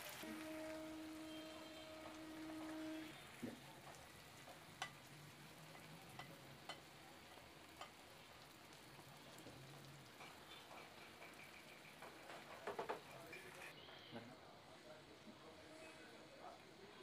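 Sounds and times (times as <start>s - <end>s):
fish sizzling in oil: 0.0s - 13.8s.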